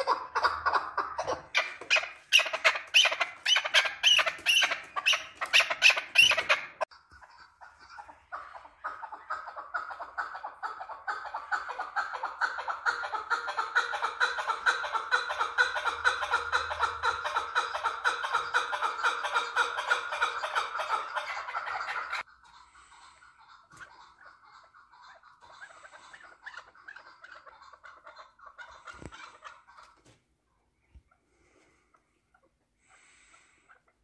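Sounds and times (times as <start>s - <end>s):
partridge calling: 0.0s - 30.0s.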